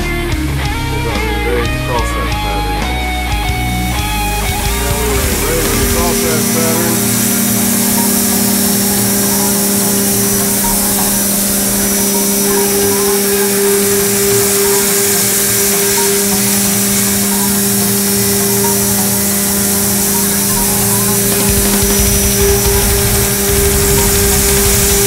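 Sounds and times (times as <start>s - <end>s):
coolant spray hiss: 1.1s - 25.0s
milling machine cutting metal: 3.8s - 25.0s.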